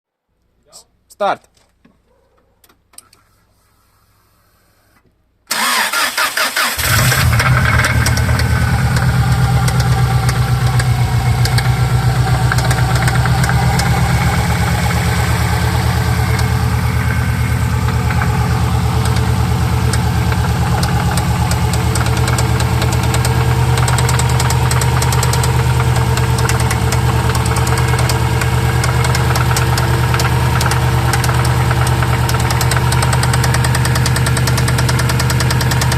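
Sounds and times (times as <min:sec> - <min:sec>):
car engine cranking and idling: 0:05.5 - 0:35.9
fast even engine knock: 0:07.0 - 0:35.9.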